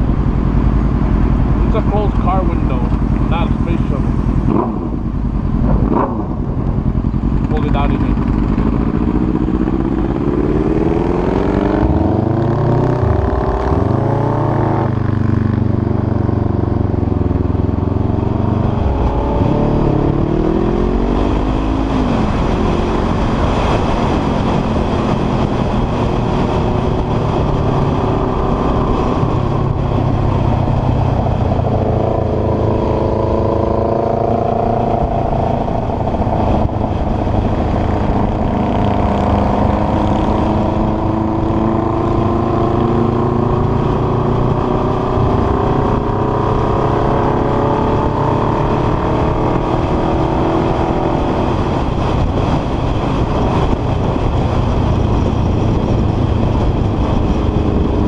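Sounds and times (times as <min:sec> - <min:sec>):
motorcycle engine accelerating: 0:00.0 - 0:58.0
wind rushing over microphone: 0:00.0 - 0:58.0.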